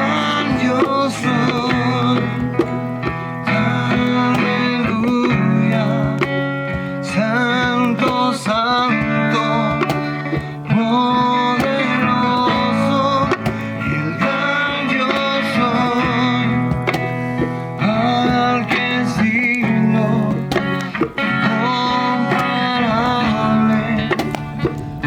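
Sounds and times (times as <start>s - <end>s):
acoustic guitar strumming: 0.0s - 25.0s
voices singing: 0.0s - 25.0s.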